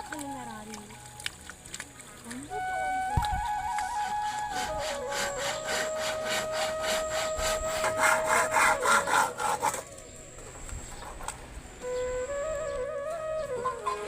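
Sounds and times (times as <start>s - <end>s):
rhythmic rasping strokes: 0.0s - 14.0s
held flute note: 2.3s - 14.0s.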